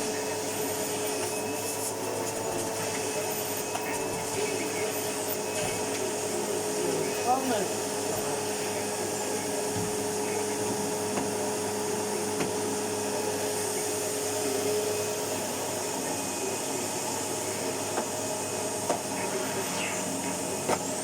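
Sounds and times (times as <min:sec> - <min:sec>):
vacuum cleaner motor running: 0:00.0 - 0:21.0.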